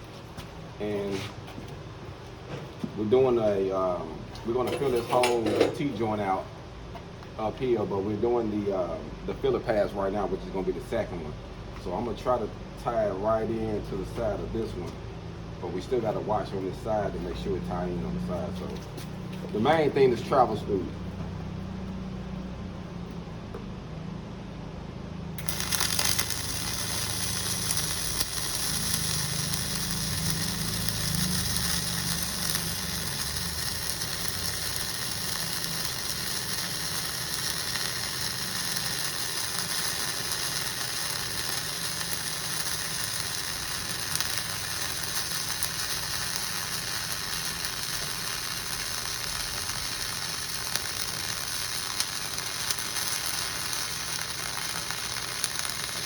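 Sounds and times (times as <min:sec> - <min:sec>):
arc welding sizzling and crackling: 0:00.0 - 0:23.7, 0:25.2 - 0:56.0.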